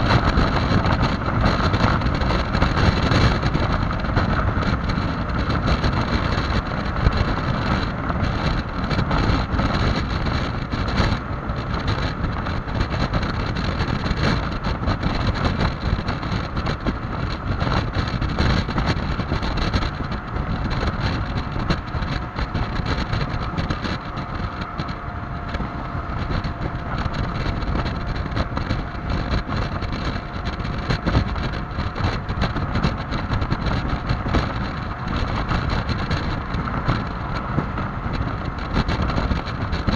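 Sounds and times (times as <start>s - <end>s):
scooter engine drone: 0.0s - 39.9s
wind buffeting microphone: 0.0s - 39.9s.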